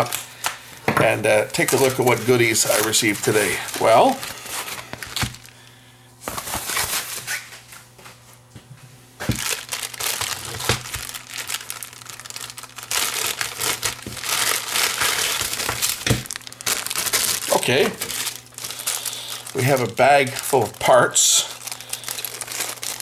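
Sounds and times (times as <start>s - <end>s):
package wrapping crinkling: 0.0s - 7.9s, 9.1s - 23.0s.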